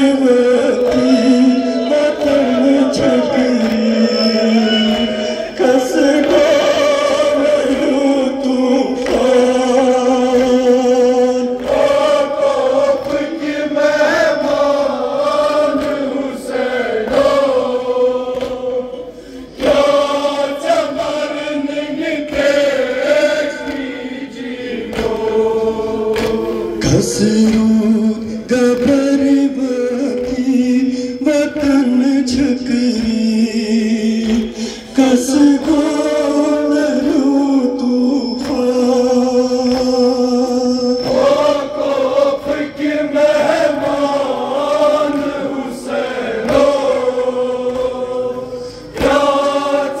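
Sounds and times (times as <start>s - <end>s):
men chanting in chorus: 0.0s - 50.0s.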